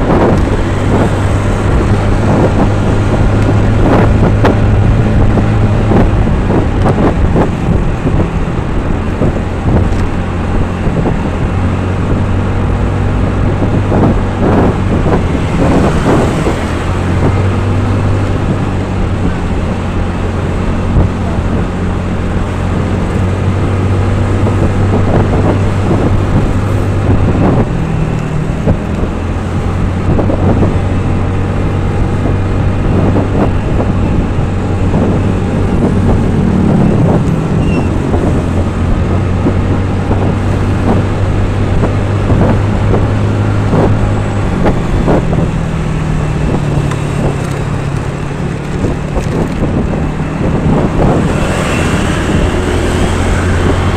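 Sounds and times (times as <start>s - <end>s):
road noise: 0.0s - 53.9s
vehicle engine running: 0.0s - 53.9s
wind on microphone: 0.0s - 53.9s.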